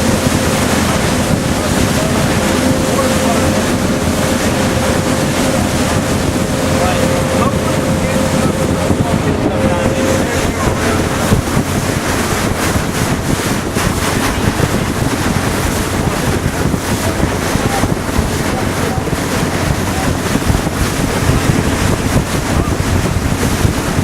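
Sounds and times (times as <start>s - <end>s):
boat engine noise: 0.0s - 24.0s
rushing water: 0.0s - 24.0s
wind buffeting microphone: 0.0s - 24.0s.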